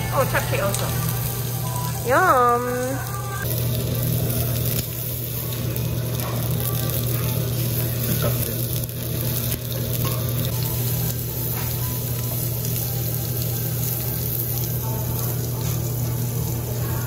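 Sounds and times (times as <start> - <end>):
meat sizzling on a grill: 0.0 - 17.0.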